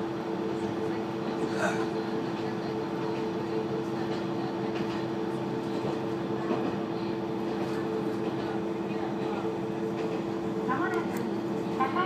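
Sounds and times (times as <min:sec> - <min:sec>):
railcar cabin running noise: 0:00.0 - 0:12.0.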